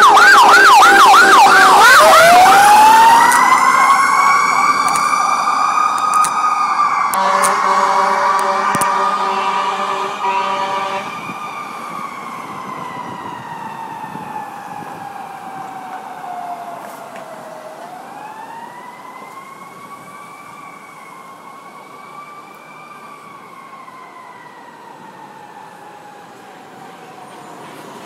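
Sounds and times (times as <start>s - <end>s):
ambulance siren wailing: 0.0s - 28.0s
street traffic: 0.0s - 28.0s.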